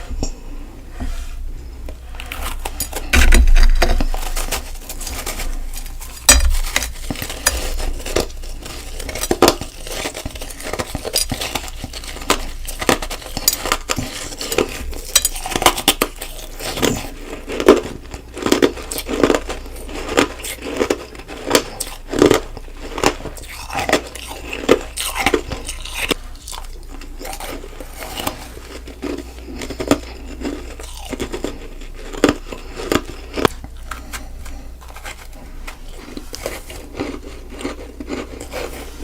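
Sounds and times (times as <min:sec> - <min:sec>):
ice crunching and clinking on dish: 0:01.9 - 0:39.0.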